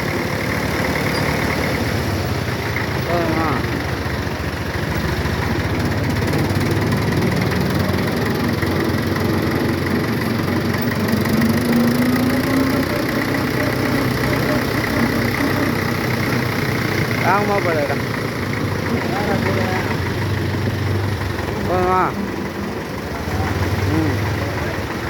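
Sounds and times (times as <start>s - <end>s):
tractor diesel engine chugging: 0.0s - 25.0s.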